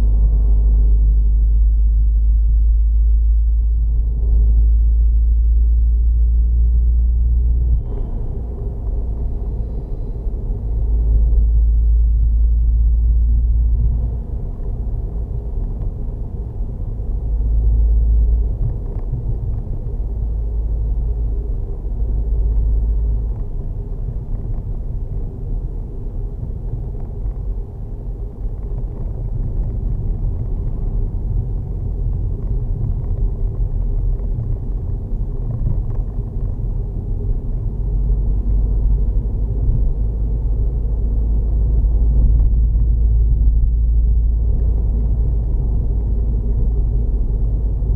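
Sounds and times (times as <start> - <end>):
engine running with low rumble: 0.0 - 47.9.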